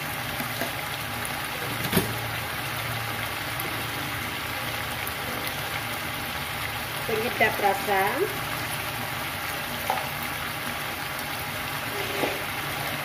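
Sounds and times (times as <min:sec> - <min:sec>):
sauce simmering in a pan: 0:00.0 - 0:13.0.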